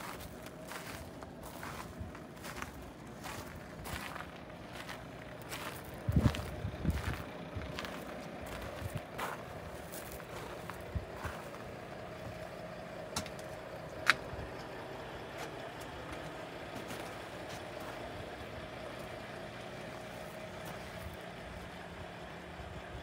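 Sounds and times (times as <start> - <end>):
distant engine hum: 0.0 - 23.0.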